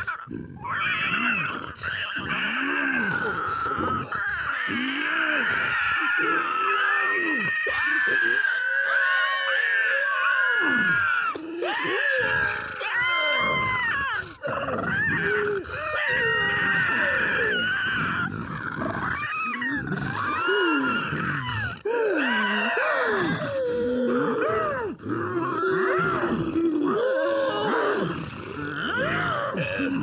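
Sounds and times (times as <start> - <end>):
high wavering monster calls: 0.0 - 30.0.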